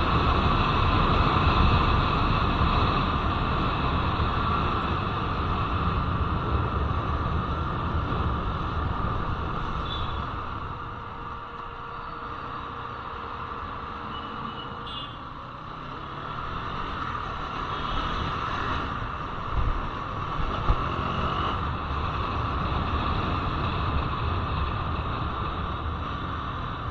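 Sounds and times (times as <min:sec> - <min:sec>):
wind and road noise: 0:00.0 - 0:26.9.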